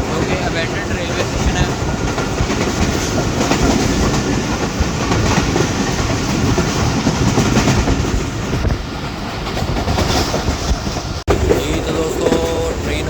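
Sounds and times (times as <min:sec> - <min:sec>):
train wheels rumbling on track: 0:00.0 - 0:13.0
wheels clacking over rail joints: 0:00.0 - 0:13.0.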